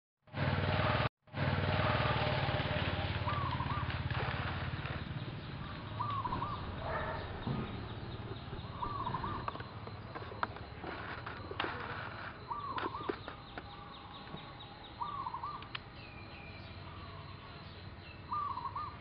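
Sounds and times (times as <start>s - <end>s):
motor engine running: 0.3s - 15.7s.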